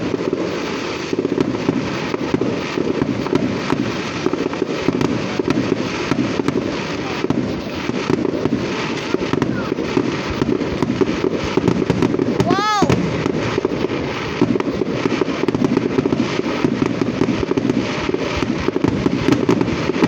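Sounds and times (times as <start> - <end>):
fireworks crackling pops: 0.0 - 20.0.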